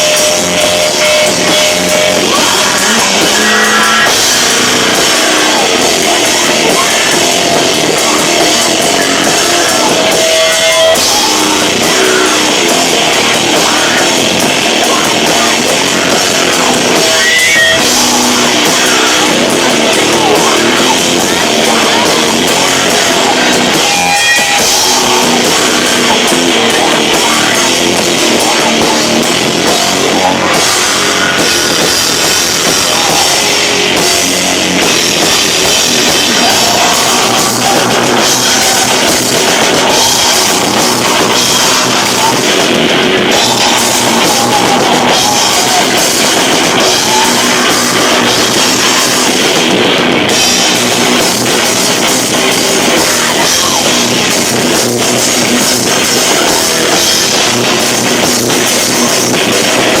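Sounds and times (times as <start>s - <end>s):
distorted live rock band: 0.0s - 60.0s.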